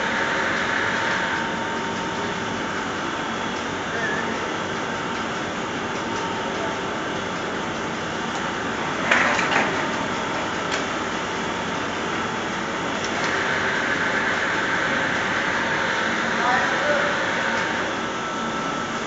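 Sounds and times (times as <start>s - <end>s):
conveyor machinery running: 0.0s - 19.0s.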